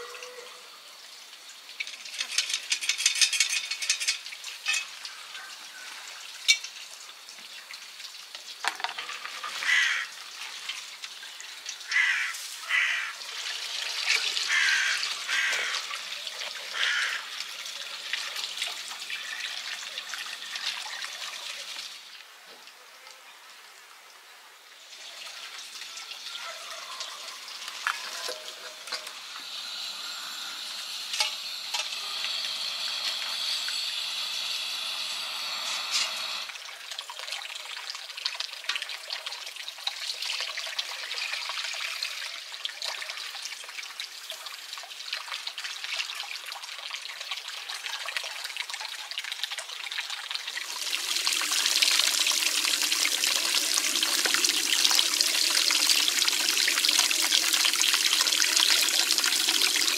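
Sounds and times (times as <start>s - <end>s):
stream running over stones: 0.0s - 59.9s.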